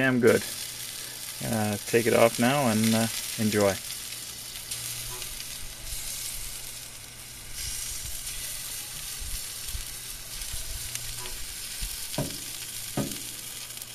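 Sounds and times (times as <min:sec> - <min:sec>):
steady low hum: 0:00.0 - 0:13.8
fat sizzling: 0:00.0 - 0:13.9.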